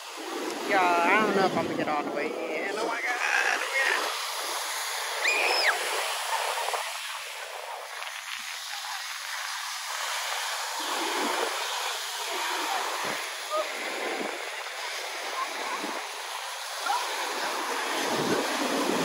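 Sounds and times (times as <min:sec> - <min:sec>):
surf washing on sand: 0:00.0 - 0:19.0.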